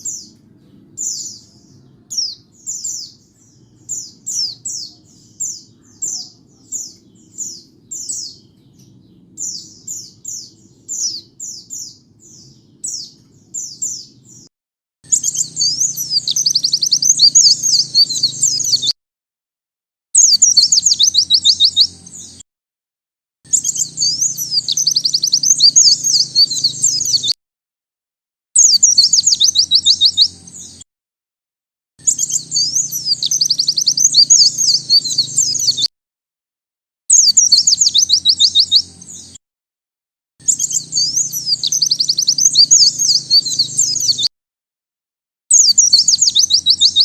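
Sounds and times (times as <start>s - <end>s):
bird twittering trills: 0.0s - 19.0s, 20.2s - 22.4s, 23.5s - 27.4s, 28.6s - 30.8s, 32.0s - 35.9s, 37.1s - 39.4s, 40.4s - 44.3s, 45.5s - 47.0s.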